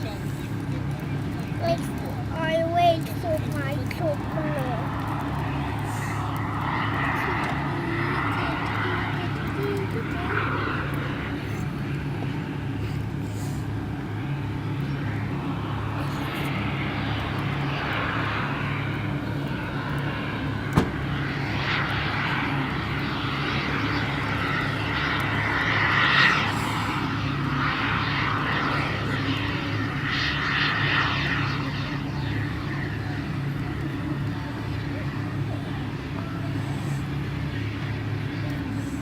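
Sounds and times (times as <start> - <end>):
model aircraft engine: 0.0 - 39.0.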